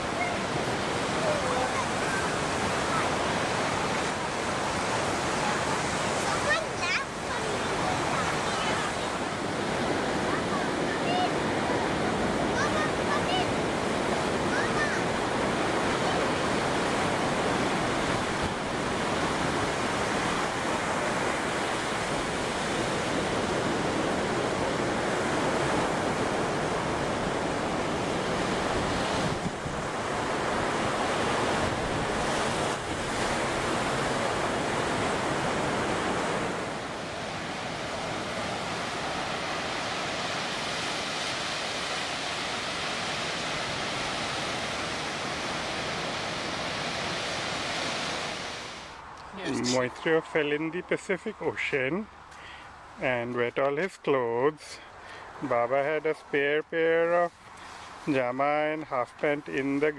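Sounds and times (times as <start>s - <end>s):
wind on microphone: 0.0s - 48.9s
ocean surf breaking: 0.0s - 59.9s.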